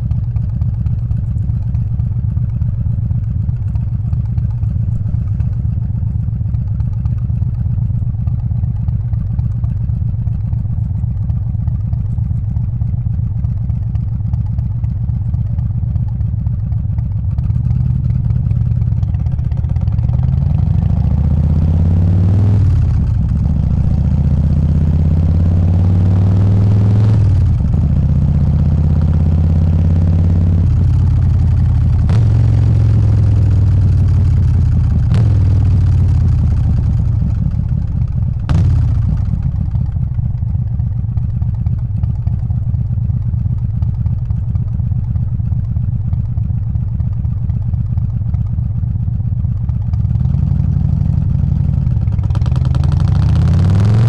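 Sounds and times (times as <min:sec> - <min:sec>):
motorcycle engine idling and pulling away: 0:00.0 - 0:54.0.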